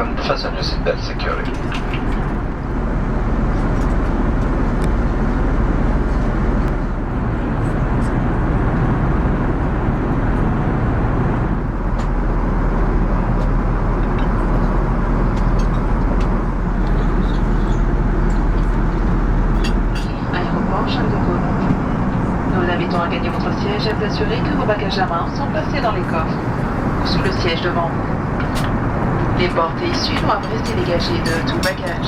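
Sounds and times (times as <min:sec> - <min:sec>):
aircraft cabin roar: 0:00.0 - 0:32.0.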